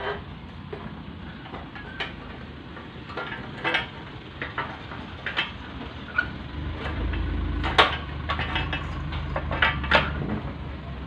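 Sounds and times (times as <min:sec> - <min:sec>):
metal clinks and knocks: 0:00.0 - 0:10.5.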